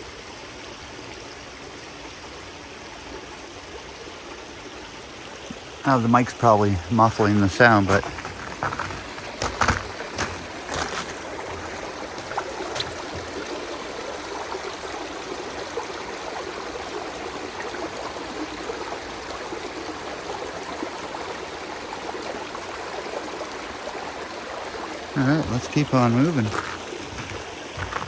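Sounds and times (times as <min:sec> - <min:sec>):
babbling brook: 0:00.0 - 0:28.0.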